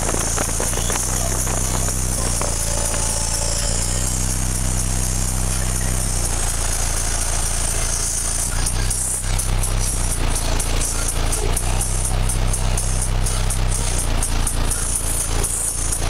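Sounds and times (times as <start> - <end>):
deep subwoofer bass notes: 0.0 - 16.0.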